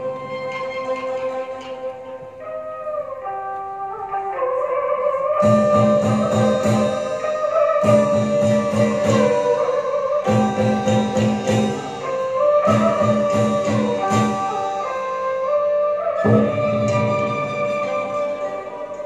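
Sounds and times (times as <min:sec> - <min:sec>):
held melody line: 0:00.0 - 0:19.0.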